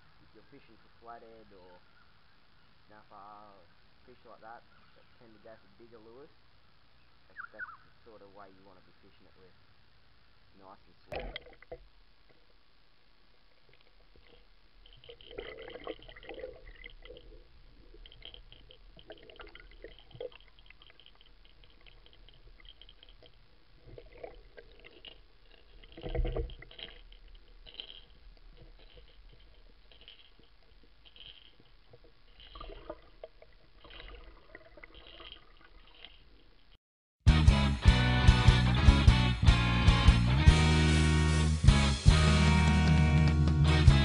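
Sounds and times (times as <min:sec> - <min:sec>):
muffled underwater noise: 0:00.0 - 0:36.7
faint ticks and clicks: 0:00.0 - 0:36.8.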